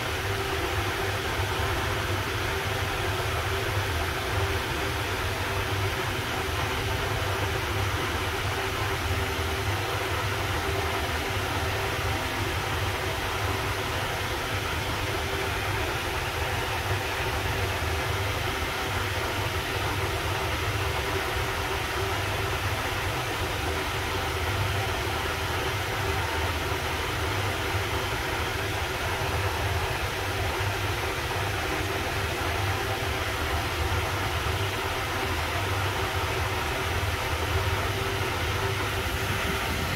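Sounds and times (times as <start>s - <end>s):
fan blades whirring: 0.0s - 39.9s.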